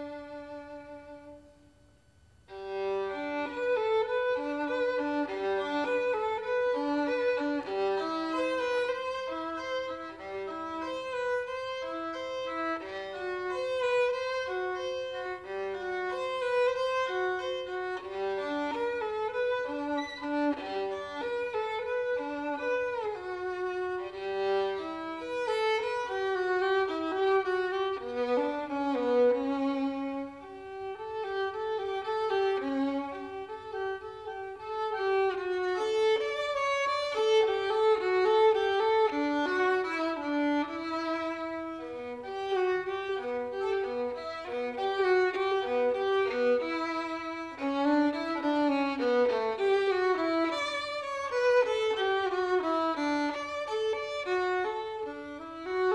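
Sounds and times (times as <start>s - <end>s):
violin playing lively melody: 0.0s - 1.7s, 2.4s - 55.9s.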